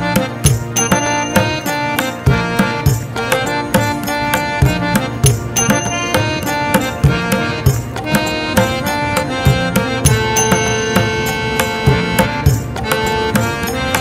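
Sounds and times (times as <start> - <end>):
steady drum beat: 0.0 - 14.0
sustained melody notes: 0.0 - 14.0.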